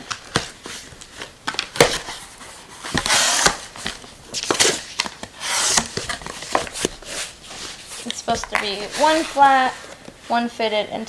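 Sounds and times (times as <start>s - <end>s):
cardboard flaps scraping: 0.3s - 10.0s.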